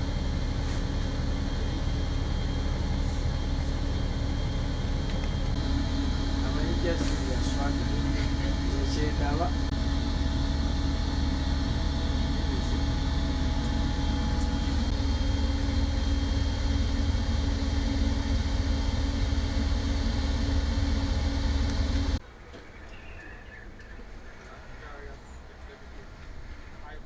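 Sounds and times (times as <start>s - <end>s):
diesel coach engine hum: 0.0s - 27.0s.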